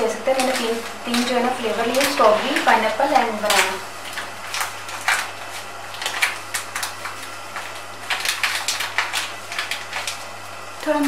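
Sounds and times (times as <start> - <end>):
plastic packet crinkling: 0.0 - 11.0
powder grains falling on plate: 0.3 - 11.0.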